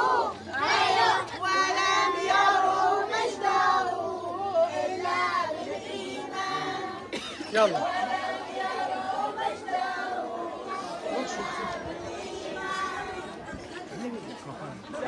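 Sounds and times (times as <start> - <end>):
children and women singing a hymn: 0.0 - 13.7.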